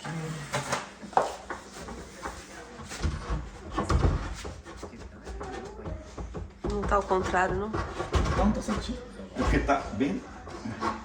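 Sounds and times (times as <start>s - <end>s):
ladder knocking and scraping: 1.5s - 11.0s.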